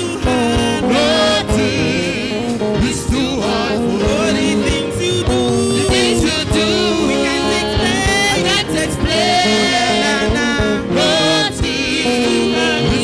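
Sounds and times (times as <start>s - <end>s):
band with drum beat: 0.0s - 13.0s
voices singing gospel: 0.0s - 13.0s.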